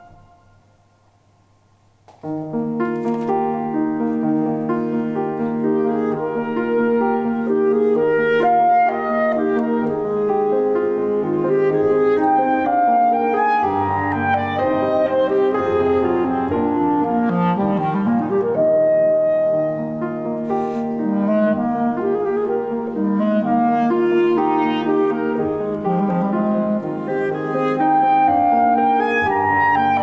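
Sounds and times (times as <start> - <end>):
clarinet melody: 0.0 - 0.9, 2.3 - 30.0
grand piano accompaniment: 0.0 - 30.0.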